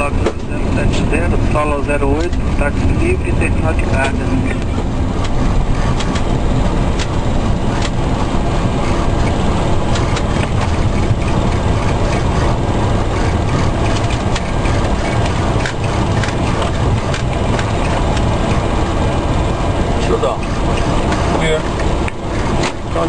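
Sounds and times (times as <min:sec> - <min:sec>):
low rumble in aircraft cockpit: 0:00.0 - 0:23.0.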